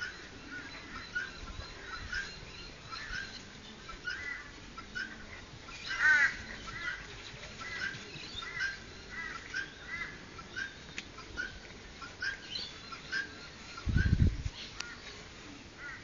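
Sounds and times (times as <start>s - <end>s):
high-pitched animal calls: 0.0s - 15.0s.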